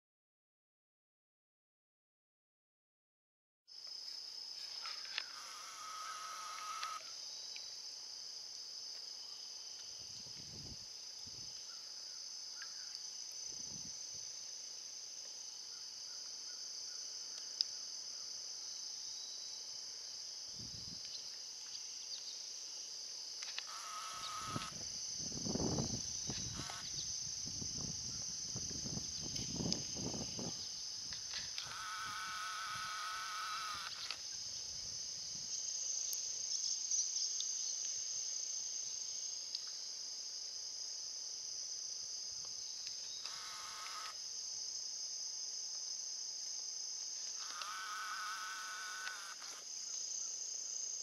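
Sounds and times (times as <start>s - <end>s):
insects buzzing: 3.7s - 51.0s.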